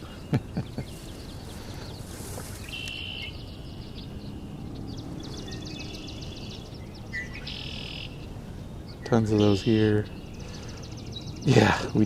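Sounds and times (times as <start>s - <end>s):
high bird trill: 0.0s - 12.0s
songbirds singing: 0.0s - 12.0s.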